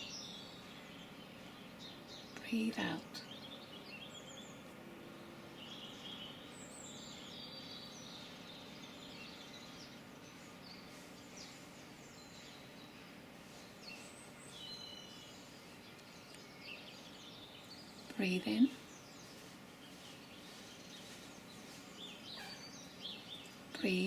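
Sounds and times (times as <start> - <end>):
faint background hiss: 0.0 - 24.0
songbirds chirping and trilling: 0.0 - 24.0.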